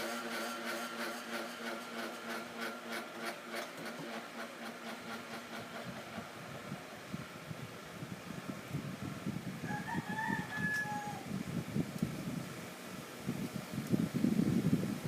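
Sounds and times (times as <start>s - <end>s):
fan ticking: 0.0s - 9.6s, 11.2s - 15.0s
electric fan motor humming: 0.0s - 15.0s.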